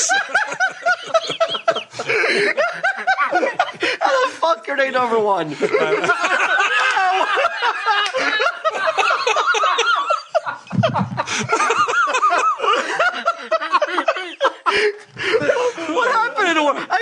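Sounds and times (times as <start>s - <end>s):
men laughing: 0.0s - 17.0s.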